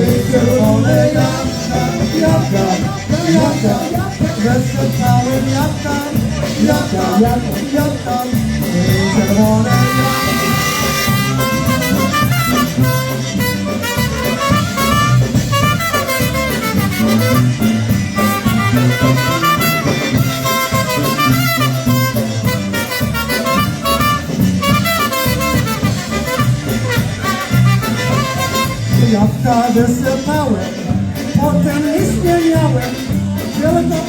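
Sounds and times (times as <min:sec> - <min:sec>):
polka band playing: 0:00.0 - 0:34.0.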